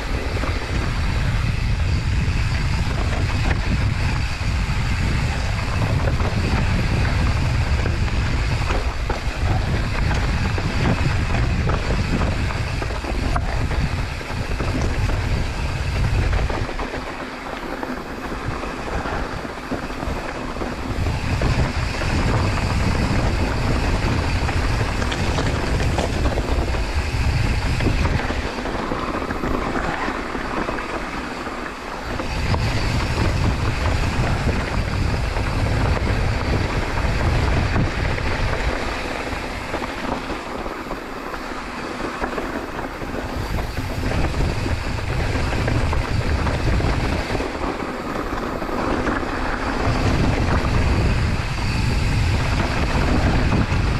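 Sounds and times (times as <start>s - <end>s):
bike trail noise: 0.0s - 53.9s
wind rushing over microphone: 0.0s - 53.9s.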